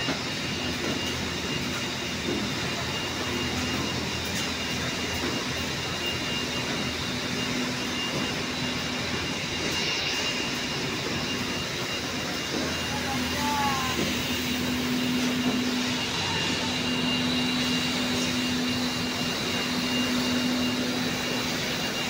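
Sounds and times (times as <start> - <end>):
factory machinery din: 0.0 - 22.0
high whine: 0.0 - 22.0.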